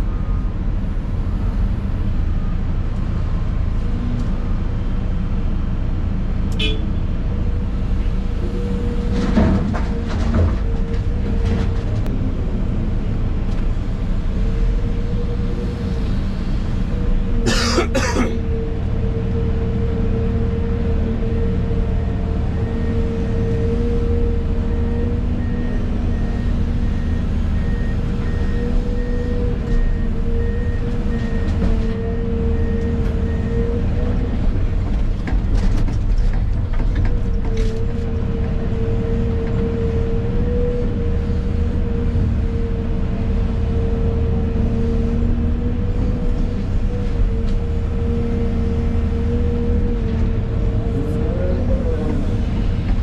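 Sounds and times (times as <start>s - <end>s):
excavator diesel engine whining: 7.4s - 53.0s.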